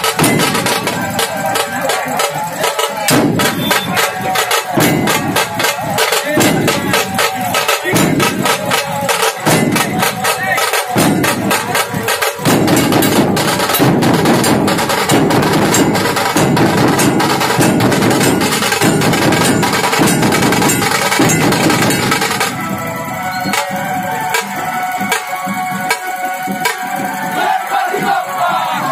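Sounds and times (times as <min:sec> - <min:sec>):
fast dense drum strokes: 0:00.0 - 0:28.9
heavy low drum pattern: 0:00.0 - 0:28.9.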